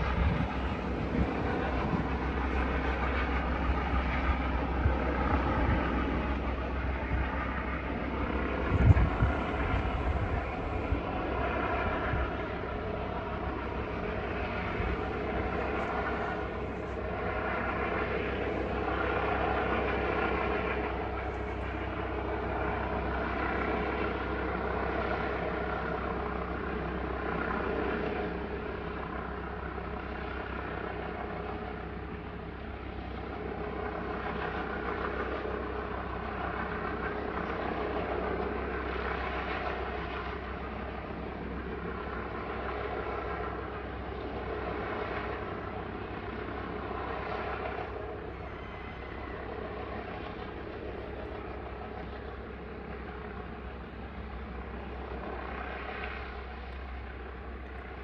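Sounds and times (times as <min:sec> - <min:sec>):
helicopter flying over: 0:00.0 - 0:58.0.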